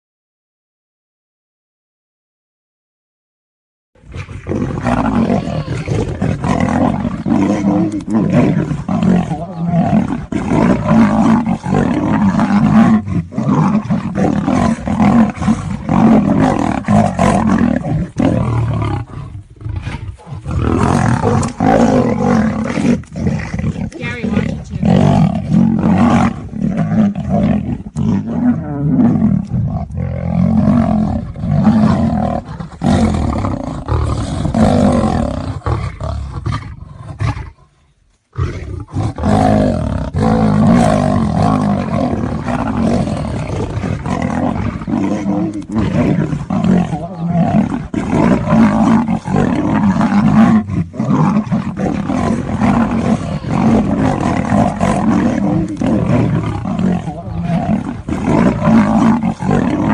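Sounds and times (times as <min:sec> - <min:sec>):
lion and tiger roaring: 0:04.0 - 0:59.9.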